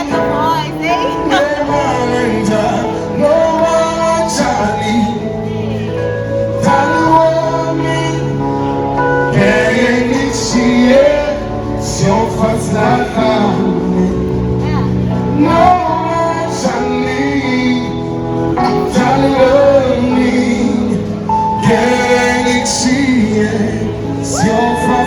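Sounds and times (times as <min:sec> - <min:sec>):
sustained bass: 0:00.0 - 0:25.0.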